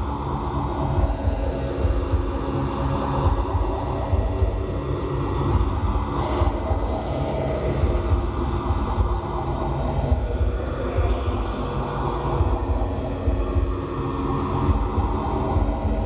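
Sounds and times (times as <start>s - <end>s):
droning electronic tones: 0.0s - 16.0s
noise music low rumble: 0.0s - 16.0s.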